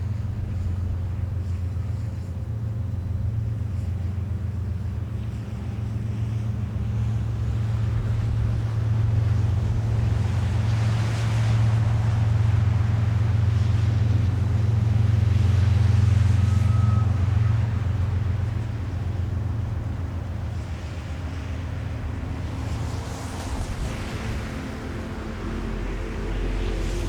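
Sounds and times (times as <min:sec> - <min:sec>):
low engine hum: 0:00.0 - 0:27.0.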